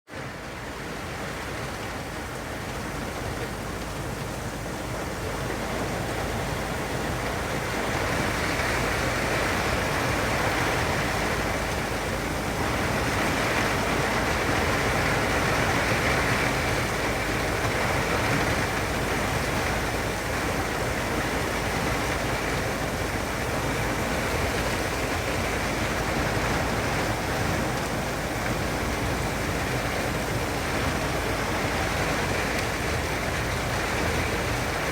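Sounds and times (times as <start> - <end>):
steady rain hiss: 0.2 - 34.9.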